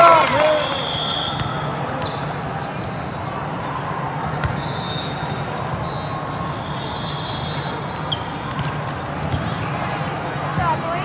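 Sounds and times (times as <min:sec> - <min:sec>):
indoor sports hall din: 0:00.0 - 0:11.0.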